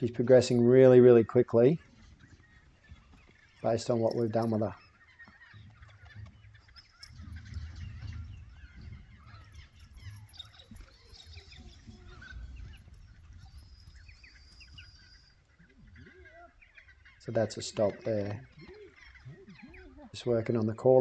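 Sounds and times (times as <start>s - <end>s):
birds honking: 0.0s - 21.0s.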